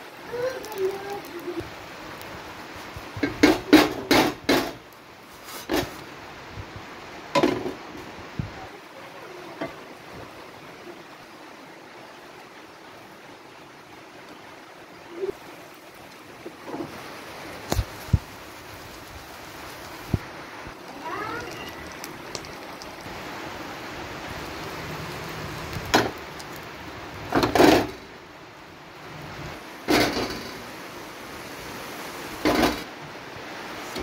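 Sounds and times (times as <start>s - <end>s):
eggs frying hiss: 0.0s - 10.6s, 12.4s - 32.9s, 33.6s - 34.0s.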